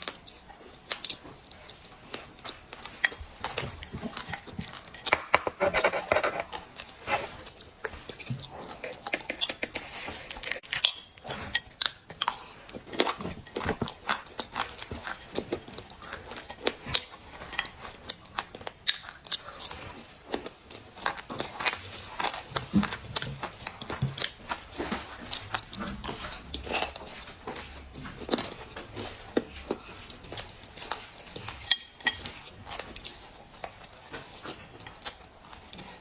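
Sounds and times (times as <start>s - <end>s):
person chewing crunchy clay: 0.0s - 36.0s.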